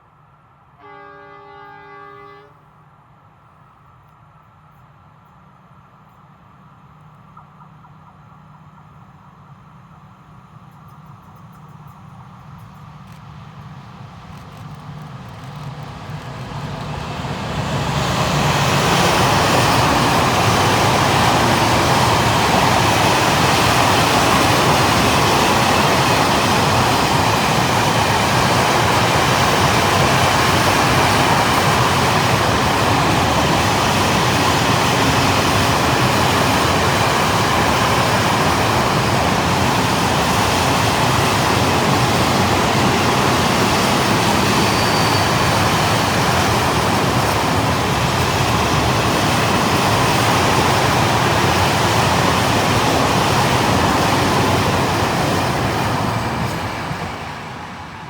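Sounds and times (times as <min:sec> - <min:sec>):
train wheels on rails: 0:03.7 - 0:58.0.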